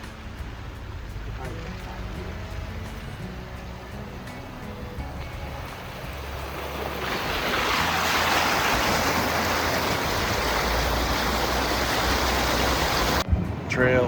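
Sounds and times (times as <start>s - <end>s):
low engine drone: 0.0s - 14.0s
steady rushing noise: 0.0s - 14.0s.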